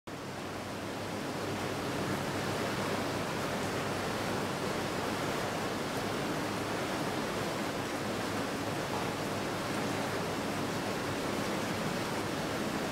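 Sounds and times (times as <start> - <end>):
hot tub water churning: 0.1 - 12.9.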